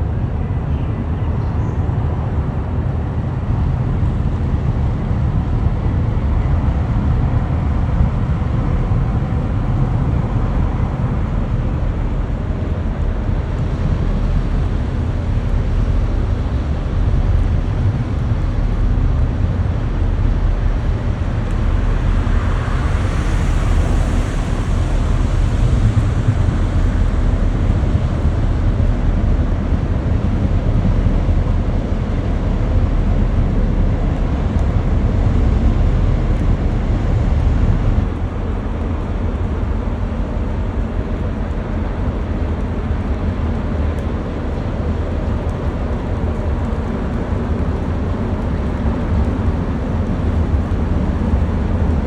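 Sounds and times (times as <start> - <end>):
ship engine rumble: 0.0 - 52.0
wind: 0.0 - 52.0.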